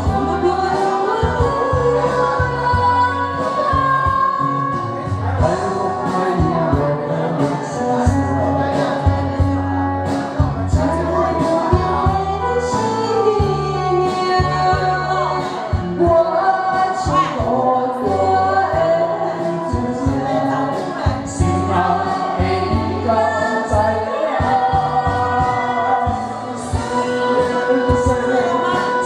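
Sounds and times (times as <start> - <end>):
woman singing: 0.0 - 9.7, 10.6 - 29.0
backing track with bass line: 0.0 - 29.0
man singing: 0.0 - 29.0.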